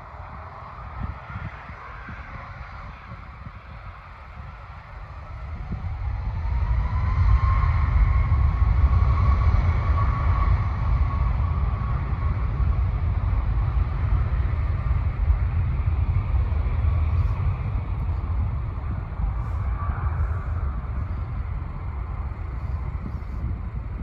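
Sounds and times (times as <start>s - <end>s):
aircraft engines whining: 0.0s - 24.0s.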